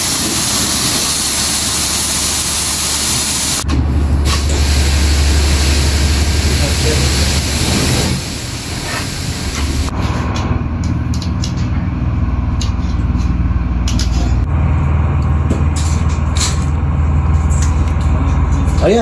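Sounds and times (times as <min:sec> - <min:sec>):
ship engine drone: 0:00.0 - 0:18.9.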